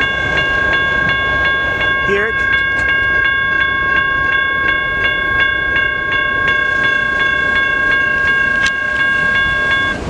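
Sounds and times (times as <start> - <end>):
freight cars rumbling: 0.0 - 10.0
railroad crossing bell ringing: 0.0 - 10.0.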